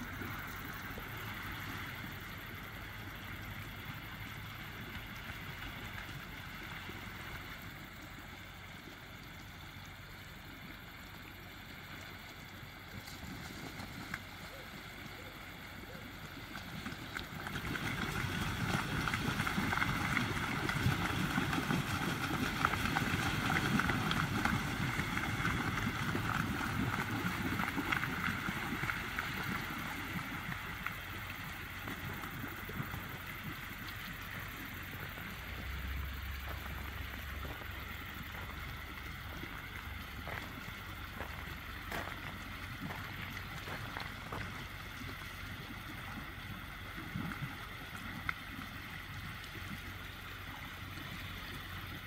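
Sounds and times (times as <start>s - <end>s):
water splashing and churning: 0.0s - 52.0s.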